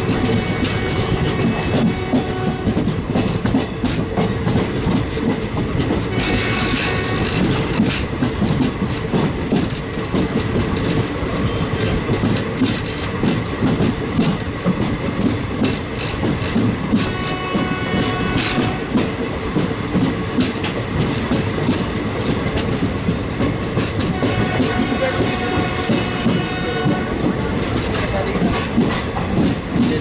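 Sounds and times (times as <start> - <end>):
train wheels clattering over rails: 0.0 - 30.0.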